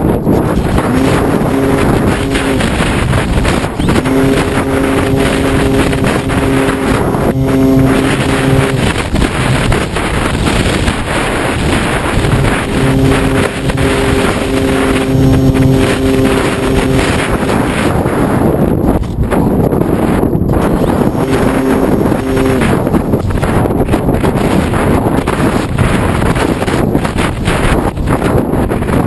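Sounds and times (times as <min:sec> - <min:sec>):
electric motor and propeller humming: 0:00.0 - 0:28.8
wind buffeting camera: 0:00.0 - 0:29.0.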